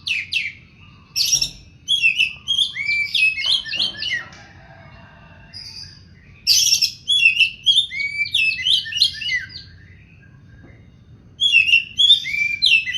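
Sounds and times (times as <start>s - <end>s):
bird singing whistled notes: 0.0s - 4.3s, 5.5s - 12.9s.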